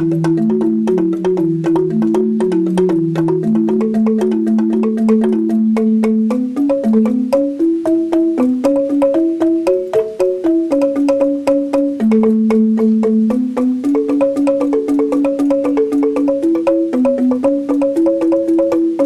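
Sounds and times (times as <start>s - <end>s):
bamboo xylophone played with mallets: 0.0s - 19.0s.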